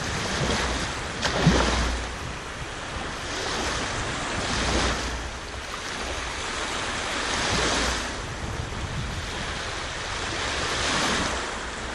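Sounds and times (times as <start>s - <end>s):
waves breaking on shore: 0.0s - 11.9s
wind rumbling on microphone: 0.0s - 11.9s.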